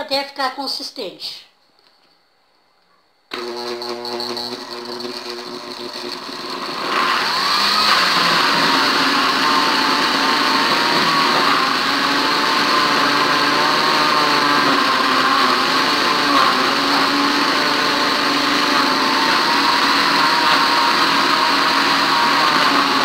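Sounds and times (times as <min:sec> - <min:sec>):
electric blender running: 0:03.3 - 0:23.0.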